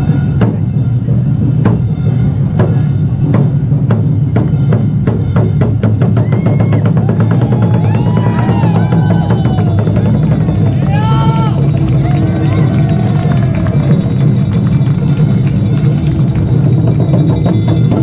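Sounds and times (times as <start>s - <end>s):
low drum rumble: 0.0s - 18.0s
taiko drums beating: 0.0s - 18.0s.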